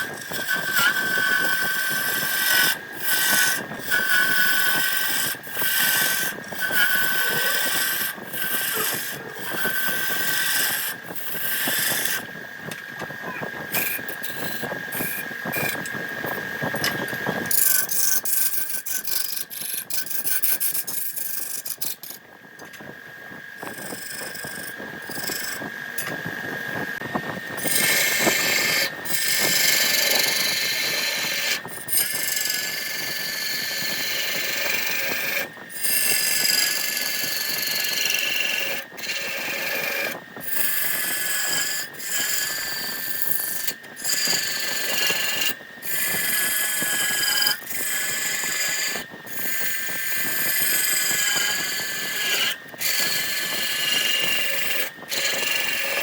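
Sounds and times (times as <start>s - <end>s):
tool scraping spinning wood: 0.0s - 56.0s
wood lathe whine: 0.0s - 56.0s.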